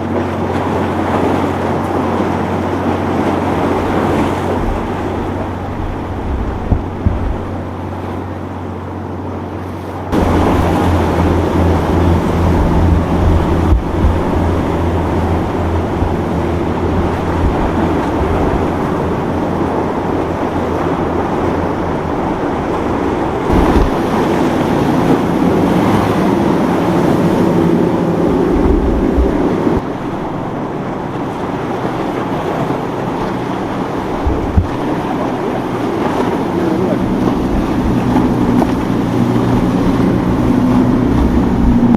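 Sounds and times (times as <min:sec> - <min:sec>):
boat engines running: 0:00.0 - 0:41.9
waves and surf: 0:00.0 - 0:41.9
wind buffeting microphone: 0:00.0 - 0:41.9.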